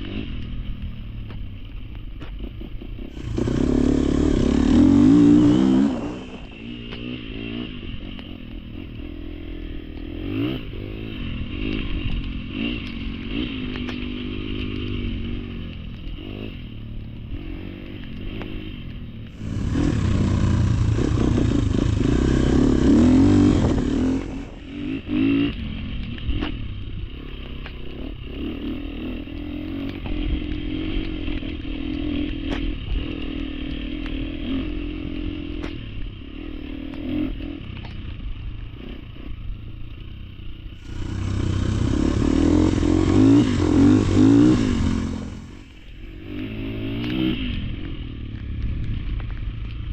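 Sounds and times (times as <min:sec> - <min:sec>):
off-road motorcycle engine revving: 0:00.0 - 0:49.9.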